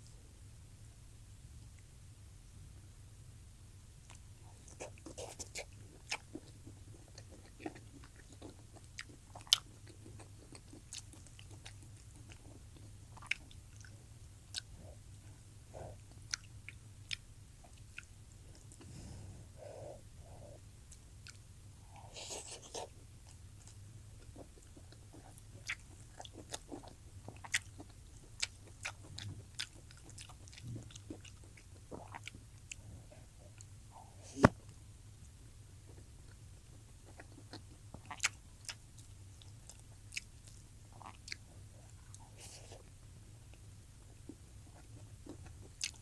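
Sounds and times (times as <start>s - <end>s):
person chewing wetly: 4.1s - 19.0s, 19.6s - 34.5s, 35.9s - 46.0s.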